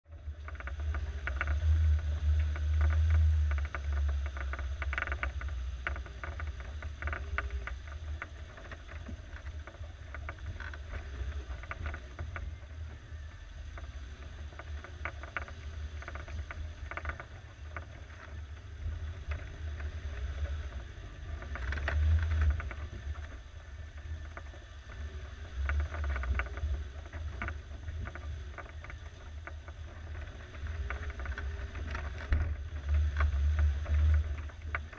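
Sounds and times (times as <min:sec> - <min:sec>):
engine rumbling at low revs: 0:00.0 - 0:34.9.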